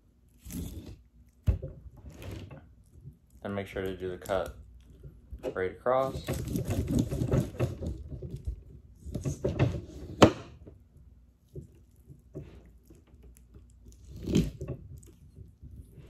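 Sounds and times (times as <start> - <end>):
knife cutting and scraping fish: 0.2 - 10.3, 11.4 - 16.0.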